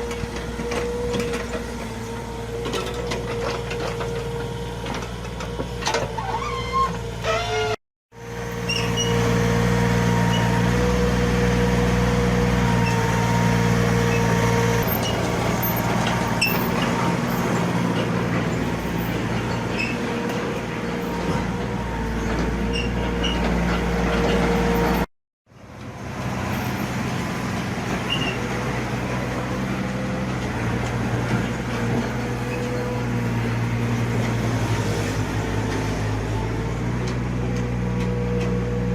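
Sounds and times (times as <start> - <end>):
excavator diesel engine running: 0.0 - 7.3, 8.2 - 38.9.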